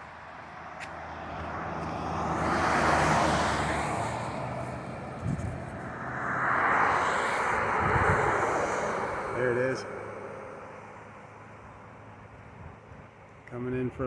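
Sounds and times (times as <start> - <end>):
vehicle engine hum passing: 0.0 - 13.3.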